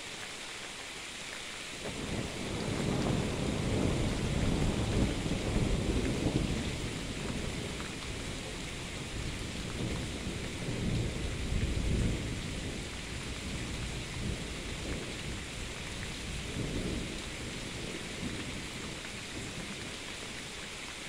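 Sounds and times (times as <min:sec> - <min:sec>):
steady rain: 0:00.0 - 0:21.0
thunder rumbling: 0:01.8 - 0:19.9.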